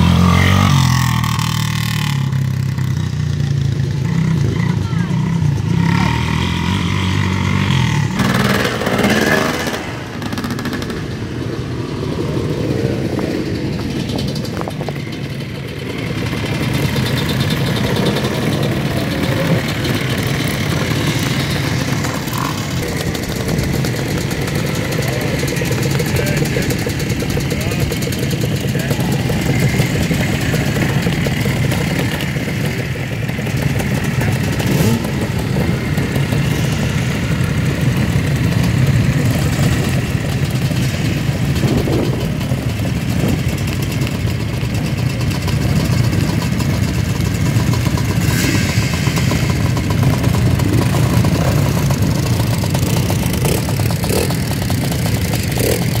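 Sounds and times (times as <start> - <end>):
dirt bike engines idling and revving: 0.0 - 56.0.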